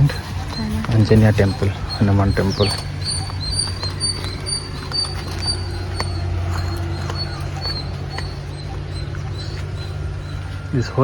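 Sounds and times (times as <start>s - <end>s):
high-pitched animal chirping: 0.0s - 11.0s
steady low hum: 0.0s - 11.0s.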